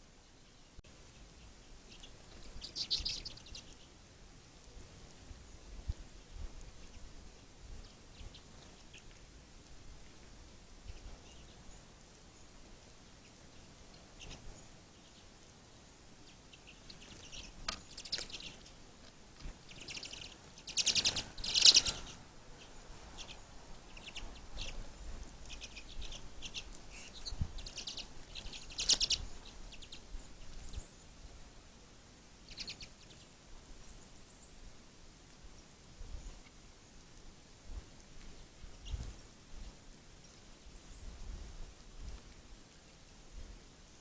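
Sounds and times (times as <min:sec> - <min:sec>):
songbirds chirping and chattering: 0:00.0 - 0:44.0.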